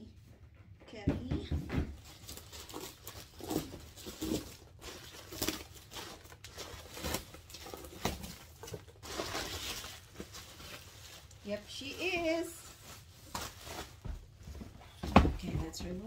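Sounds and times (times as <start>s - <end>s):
bubble wrap and ribbon crinkling: 2.0s - 15.0s.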